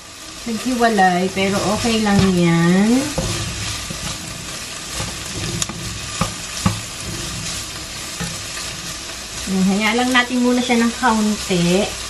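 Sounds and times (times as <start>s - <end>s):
meat sizzling in a frying pan: 0.0s - 12.0s
spatula stirring: 0.5s - 12.0s.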